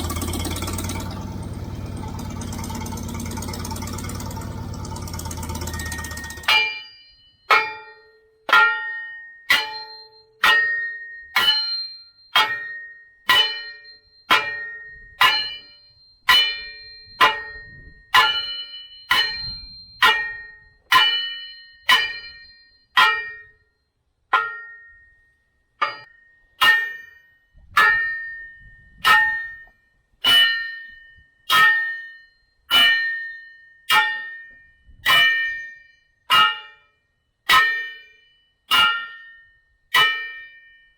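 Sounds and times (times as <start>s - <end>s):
hammer blows on steel: 0.0s - 23.6s, 25.8s - 36.9s, 37.5s - 40.5s.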